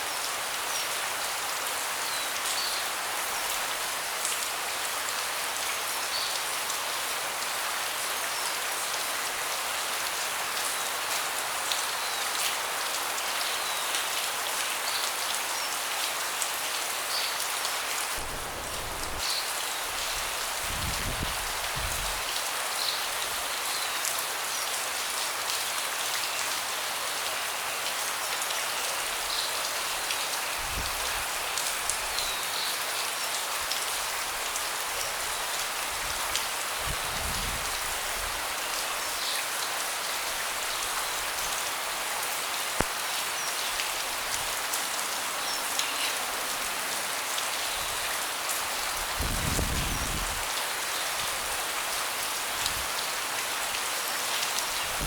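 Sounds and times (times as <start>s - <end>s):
rain on a wooden deck: 0.0s - 55.0s.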